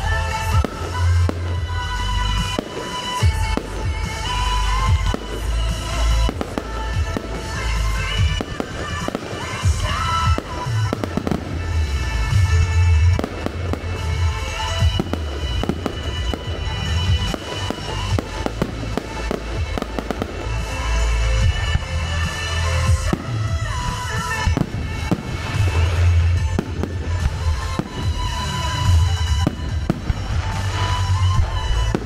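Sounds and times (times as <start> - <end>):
fireworks booms and crackles: 0.0 - 32.0
music: 0.0 - 32.0.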